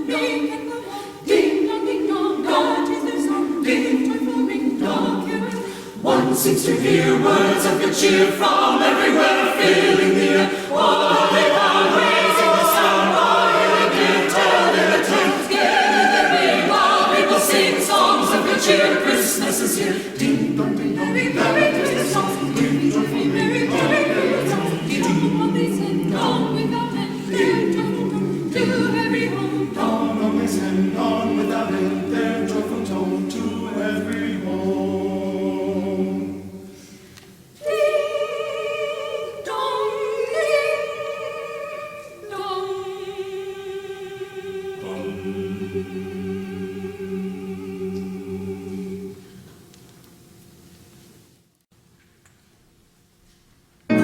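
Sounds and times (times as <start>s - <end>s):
church choir singing: 0.0s - 49.6s.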